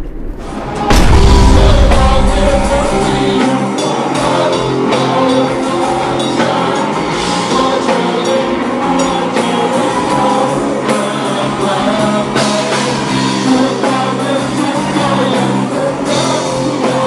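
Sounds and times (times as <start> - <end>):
drum kit: 0.0 - 17.0
electric guitar: 0.0 - 17.0
live rock band: 0.4 - 17.0
person singing: 0.6 - 17.0.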